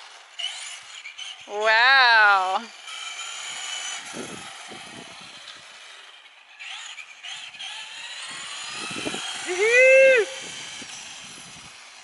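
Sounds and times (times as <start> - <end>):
rc truck electric motors whining: 0.0 - 12.0.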